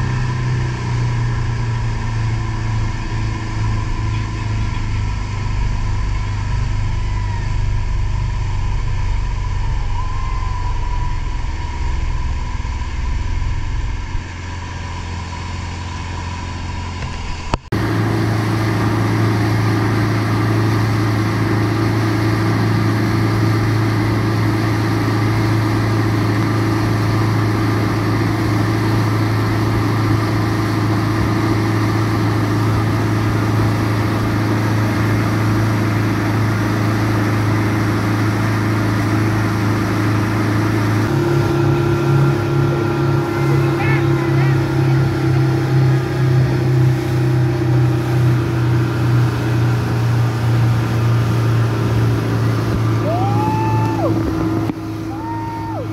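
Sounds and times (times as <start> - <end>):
outboard motor running: 0.0 - 55.9
rush of wind and water: 0.0 - 55.9.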